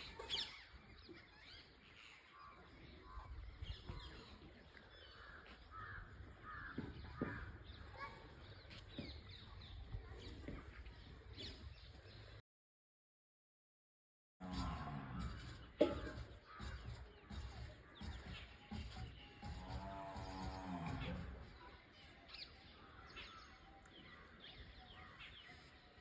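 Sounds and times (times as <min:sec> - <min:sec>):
bird calls and chirps: 0:00.0 - 0:12.4, 0:14.4 - 0:26.0.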